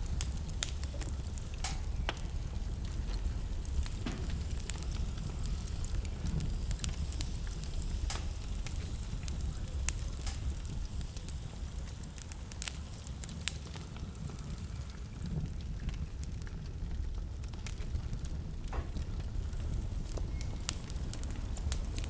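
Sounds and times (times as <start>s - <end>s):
wood fire crackling in fireplace: 0.0s - 22.0s.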